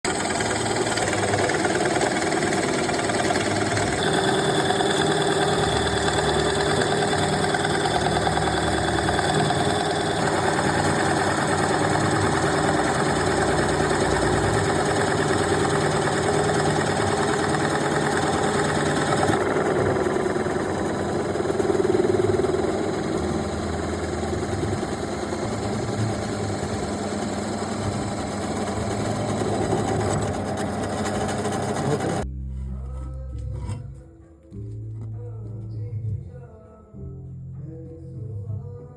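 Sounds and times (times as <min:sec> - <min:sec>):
power drill boring into wood: 0:00.1 - 0:32.2.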